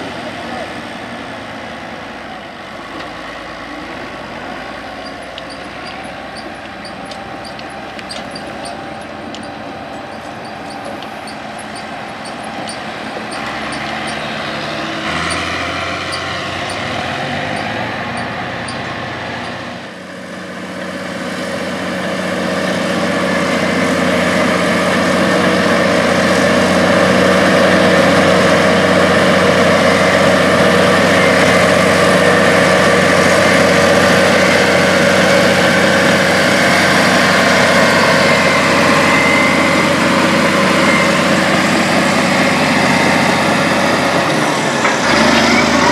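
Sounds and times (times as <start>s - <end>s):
distant tractor engine: 0.0s - 45.9s
dozer diesel engine under load: 0.0s - 45.9s.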